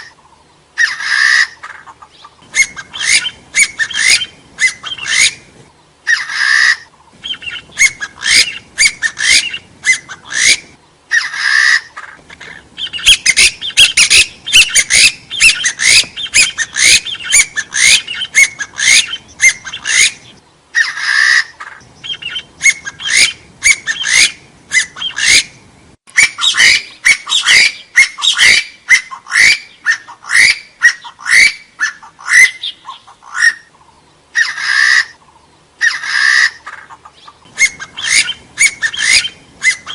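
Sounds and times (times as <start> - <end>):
partridge whistled calls: 0.0 - 39.9.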